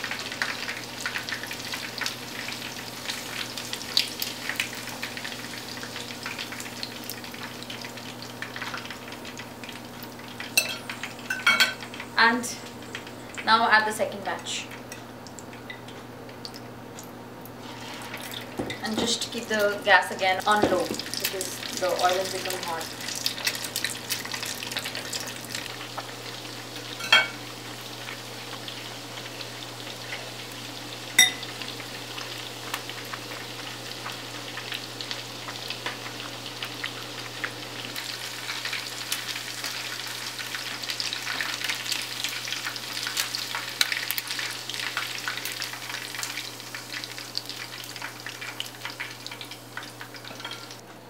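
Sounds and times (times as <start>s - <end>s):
chicken deep-frying in hot oil: 0.0s - 50.9s.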